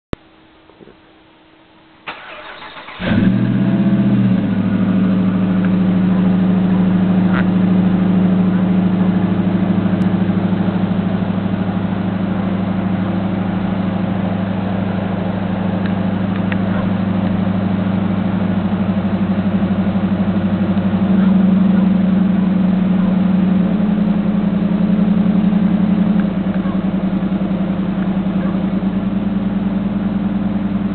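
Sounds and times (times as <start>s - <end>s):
pickup engine starting and idling: 2.0s - 30.9s.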